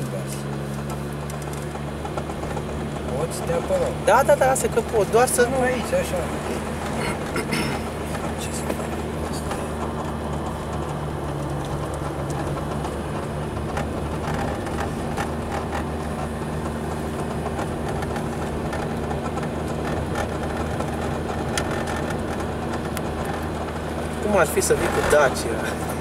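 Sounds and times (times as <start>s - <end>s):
car engine running: 0.0s - 26.0s
tyre and road noise: 0.0s - 26.0s.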